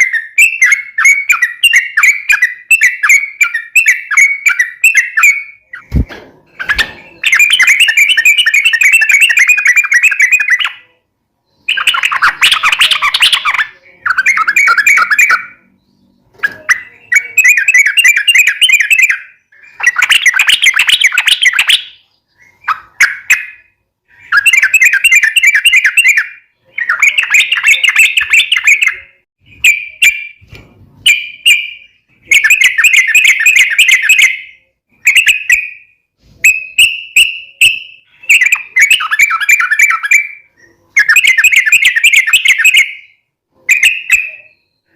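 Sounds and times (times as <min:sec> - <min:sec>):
bird singing rapid warbling: 0:00.0 - 0:44.9.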